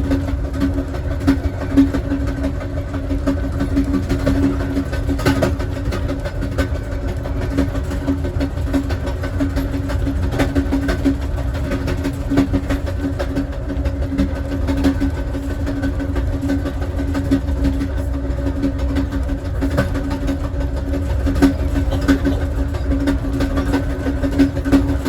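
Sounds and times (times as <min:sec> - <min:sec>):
pulsing hum: 0:00.0 - 0:25.0
rail clicks: 0:00.0 - 0:25.0
train wheels rumbling on rail: 0:00.0 - 0:25.0.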